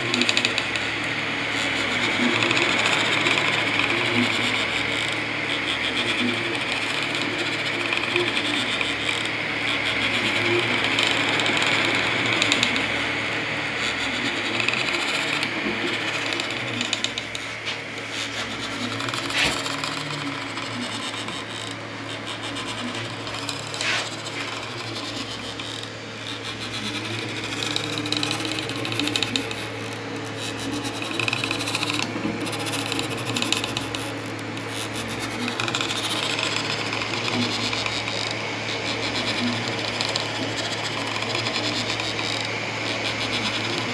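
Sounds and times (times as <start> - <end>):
fan hum: 0.0 - 43.9
stepper motors whirring: 0.0 - 43.9.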